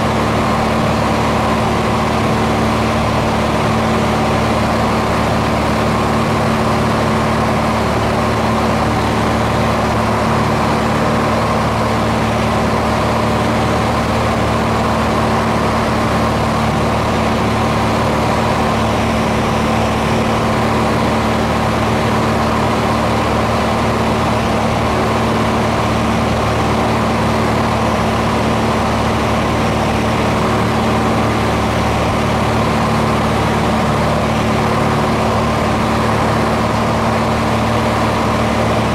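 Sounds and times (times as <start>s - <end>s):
aircraft engine droning: 0.0s - 38.9s.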